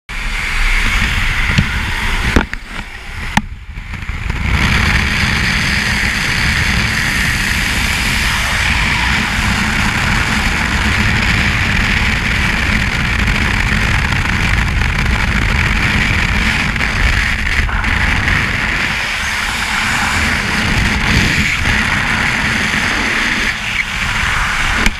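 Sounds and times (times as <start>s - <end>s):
aircraft engine noise: 0.1s - 24.9s
wind buffeting microphone: 0.1s - 24.9s
wind rushing: 0.1s - 24.9s.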